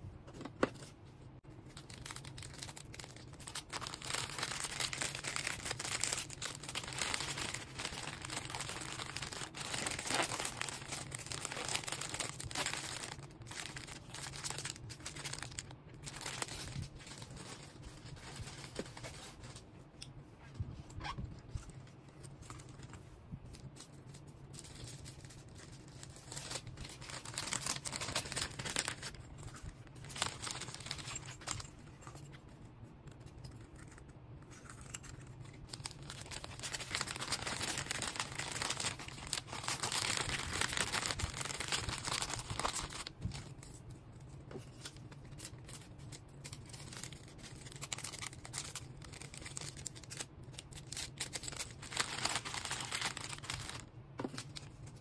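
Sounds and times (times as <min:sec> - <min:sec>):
low steady hum: 0:00.0 - 0:55.0
wrapping material crinkling: 0:01.7 - 0:19.7, 0:21.0 - 0:32.4, 0:34.6 - 0:43.8, 0:44.6 - 0:55.0.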